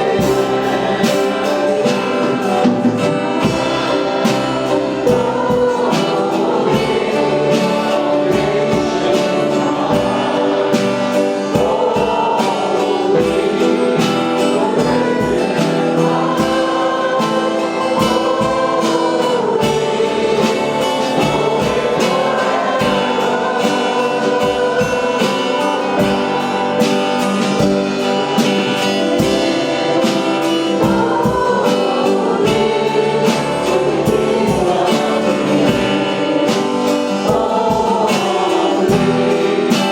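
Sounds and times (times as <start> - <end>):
band with steady drum beat: 0.0 - 39.9
group of singers: 0.0 - 39.9.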